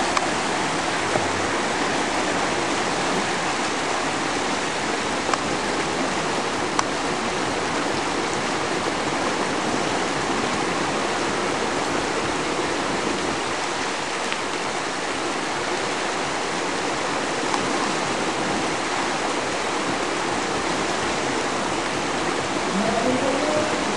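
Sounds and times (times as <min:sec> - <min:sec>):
whitewater rushing: 0:00.0 - 0:23.9.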